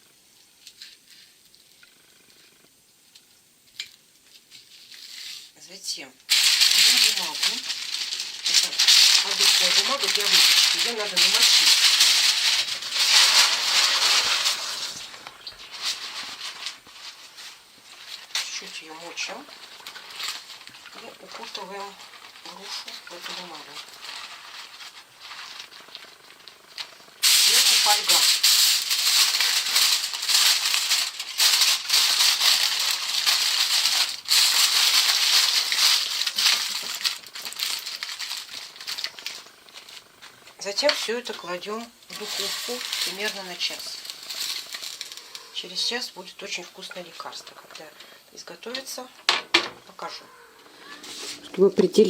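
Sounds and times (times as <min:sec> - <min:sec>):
baking paper crinkling: 0:03.7 - 0:05.6, 0:06.3 - 0:52.0.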